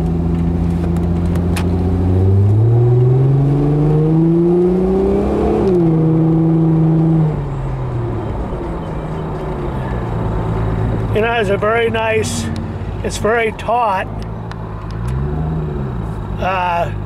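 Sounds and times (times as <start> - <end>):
car engine accelerating: 0.0 - 16.8.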